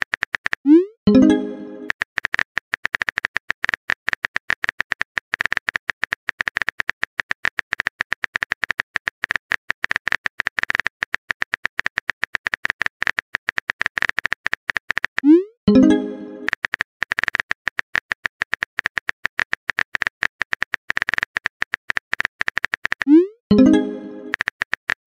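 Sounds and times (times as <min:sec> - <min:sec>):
phone keyboard tapping: 0:01.2 - 0:25.0.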